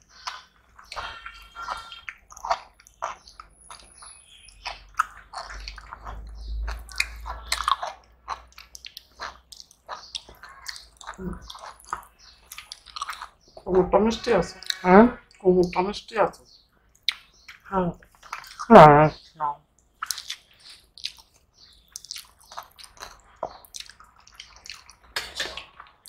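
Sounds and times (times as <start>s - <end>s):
chewing with smacks: 0.0s - 13.7s, 16.8s - 26.0s.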